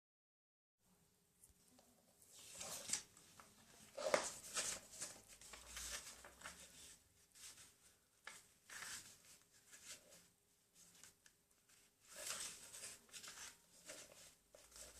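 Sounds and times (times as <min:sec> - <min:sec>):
paper rustling and crinkling: 0:02.3 - 0:14.9.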